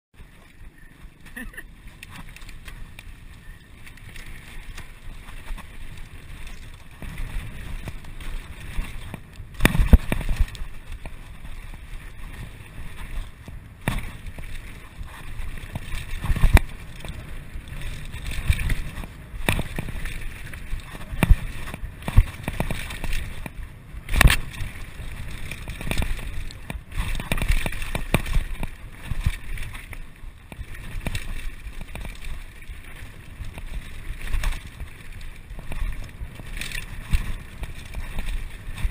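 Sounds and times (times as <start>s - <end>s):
bike knocking and rattling: 0.2s - 38.9s
wind on microphone: 0.2s - 38.9s.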